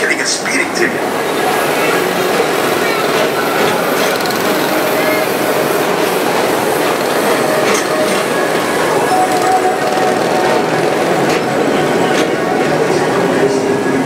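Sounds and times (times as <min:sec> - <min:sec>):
train rattling rumble: 0:00.0 - 0:14.0.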